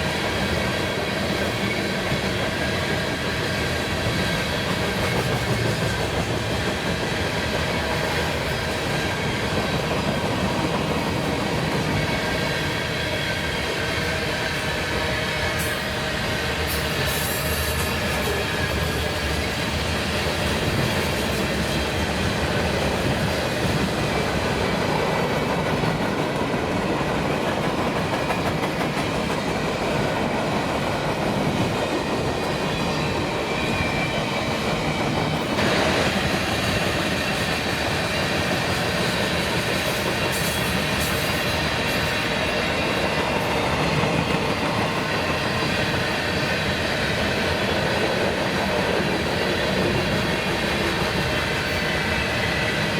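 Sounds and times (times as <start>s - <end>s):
freight train cars rolling: 0.0s - 52.9s.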